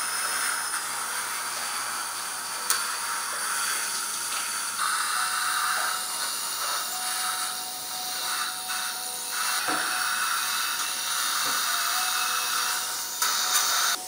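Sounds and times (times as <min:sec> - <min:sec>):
surgical suction hissing: 0:00.0 - 0:14.0.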